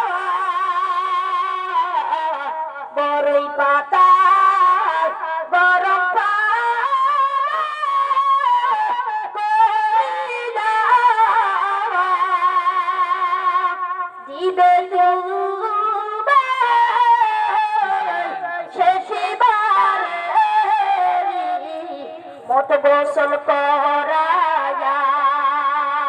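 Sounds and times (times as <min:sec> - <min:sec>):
boy singing through microphone: 0:00.0 - 0:26.0.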